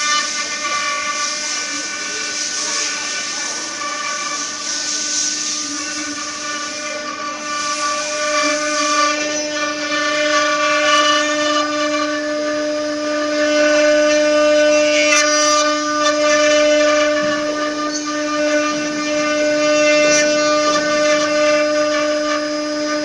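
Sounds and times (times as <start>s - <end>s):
router spindles whining: 0.0s - 23.0s
wood cutting hiss: 0.0s - 23.0s.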